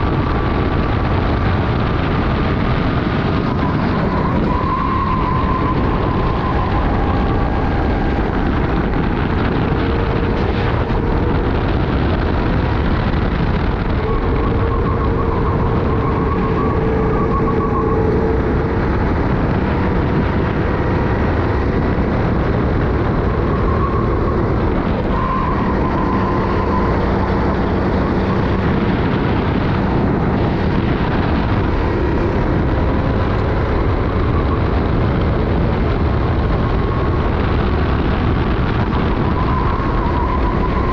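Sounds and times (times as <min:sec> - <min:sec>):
kart engine running hard: 0:00.0 - 0:40.9
wind rushing on microphone: 0:00.0 - 0:40.9.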